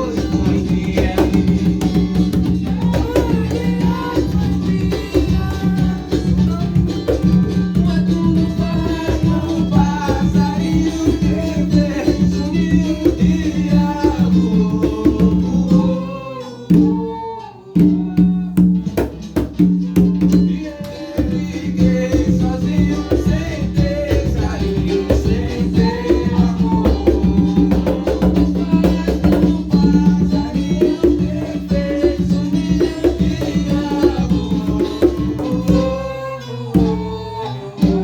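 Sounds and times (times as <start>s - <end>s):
backing band: 0.0s - 38.0s
conga drums played by hand: 0.0s - 38.0s.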